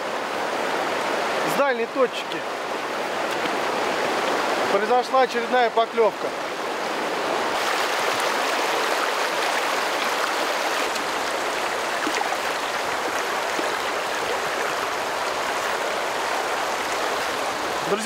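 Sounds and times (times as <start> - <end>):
river rushing over rapids: 0.0 - 18.0.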